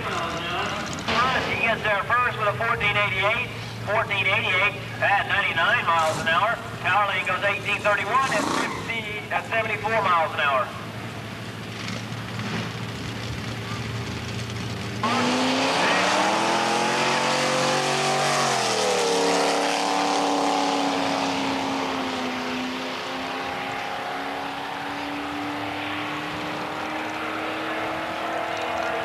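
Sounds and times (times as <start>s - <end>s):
race car engine revving: 0.0s - 9.9s, 10.8s - 29.0s.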